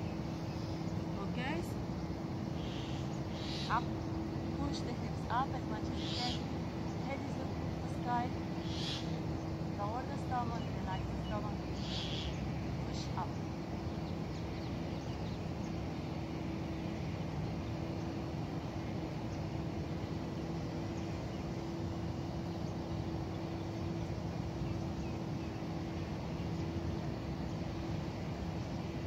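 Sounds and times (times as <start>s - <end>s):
constant low outdoor hum: 0.0s - 29.0s.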